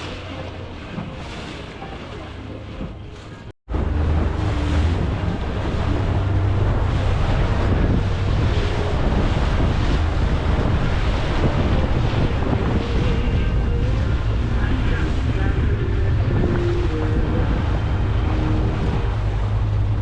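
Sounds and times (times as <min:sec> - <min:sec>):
motor boat engine: 0:00.0 - 0:20.0
waves washing: 0:00.0 - 0:20.0
wind buffeting microphone: 0:03.7 - 0:20.0.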